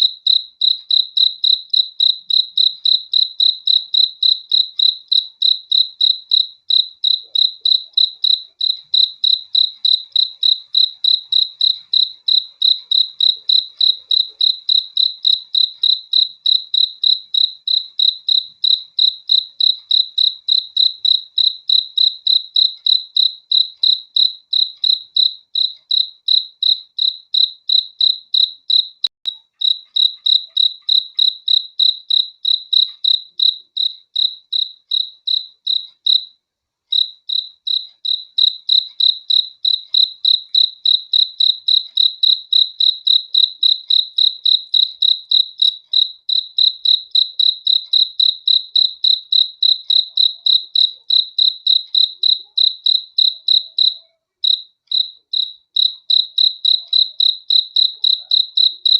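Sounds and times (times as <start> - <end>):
cricket chirping: 0.0 - 58.9.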